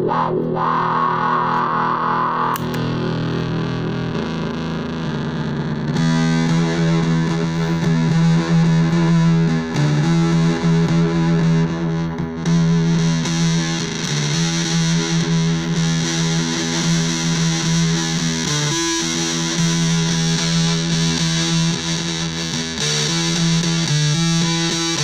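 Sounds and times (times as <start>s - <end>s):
fuzz electric guitar notes: 0.0s - 25.0s.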